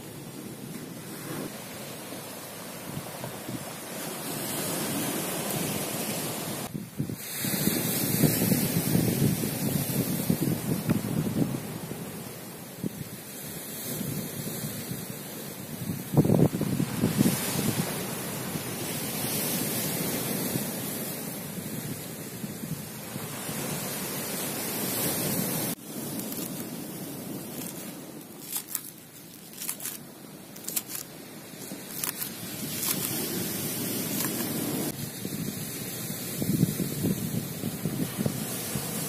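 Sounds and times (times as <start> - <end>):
surf on pebble shore: 0.0 - 39.0
wind on microphone: 0.8 - 28.8, 30.6 - 39.0.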